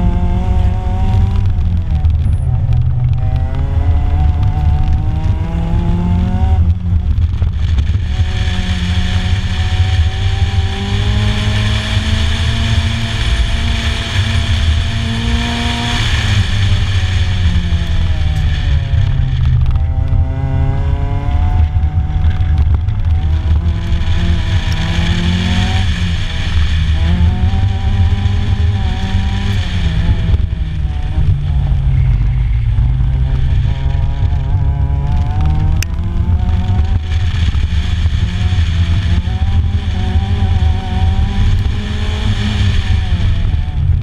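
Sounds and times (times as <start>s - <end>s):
car engine accelerating: 0.0s - 44.0s
wind rumble on microphone: 0.0s - 44.0s.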